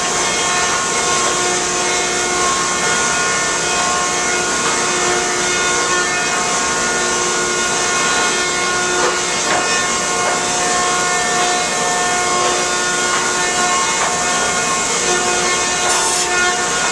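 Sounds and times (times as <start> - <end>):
machine whining tones: 0.0 - 16.9
planer machine hum: 0.0 - 16.9.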